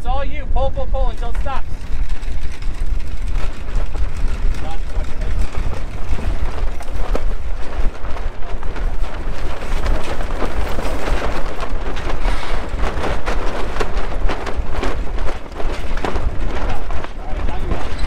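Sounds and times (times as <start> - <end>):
wind buffeting microphone: 0.0 - 18.0
sharp rustles and snaps: 1.2 - 18.0.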